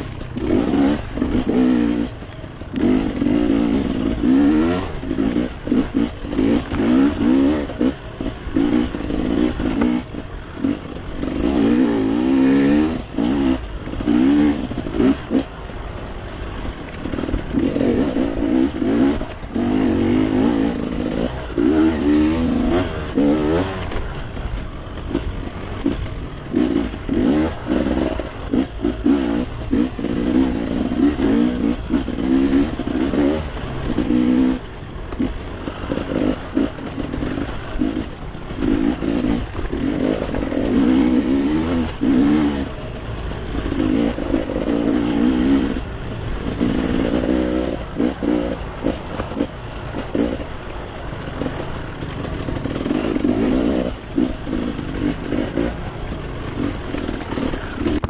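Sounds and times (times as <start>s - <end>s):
dirt bike engine revving: 0.0s - 58.0s
riding over loose rocks: 0.0s - 58.0s.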